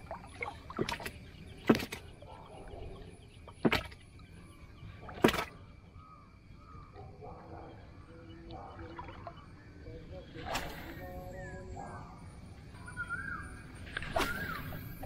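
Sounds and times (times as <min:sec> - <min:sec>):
faint water noise: 0:00.0 - 0:15.0.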